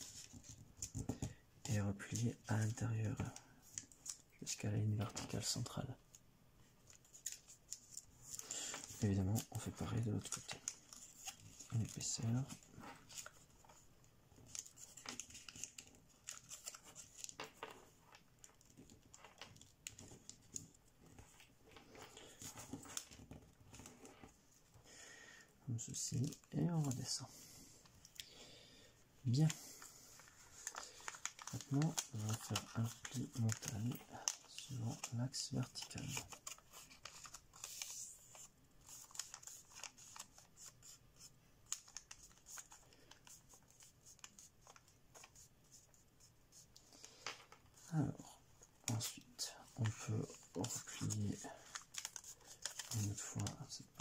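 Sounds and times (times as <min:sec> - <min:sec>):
paper rustling and crinkling: 0:00.0 - 0:05.8, 0:06.8 - 0:24.8, 0:29.3 - 0:54.0.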